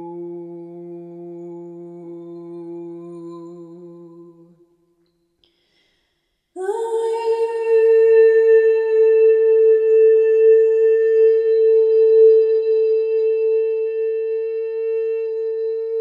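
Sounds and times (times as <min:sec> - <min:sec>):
woman humming: 0:00.0 - 0:04.6, 0:06.6 - 0:16.0.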